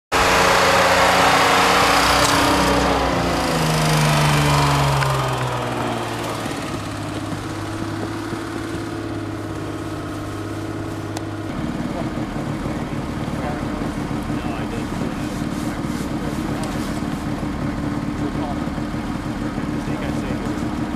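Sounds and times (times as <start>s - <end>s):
truck engine running: 0.1s - 20.9s.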